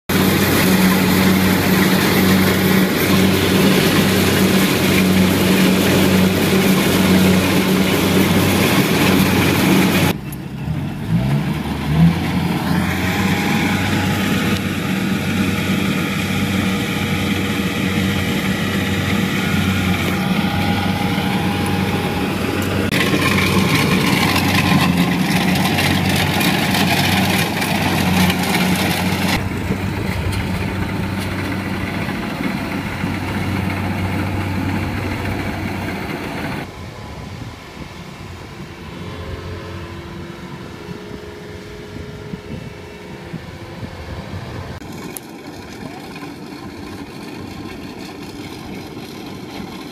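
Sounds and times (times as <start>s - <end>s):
diesel engine drone: 0.1s - 49.9s.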